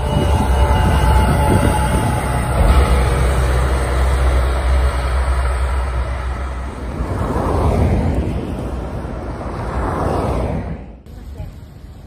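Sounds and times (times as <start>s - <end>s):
cars driving on snowy street: 0.0s - 12.0s
low rumble: 0.0s - 12.0s.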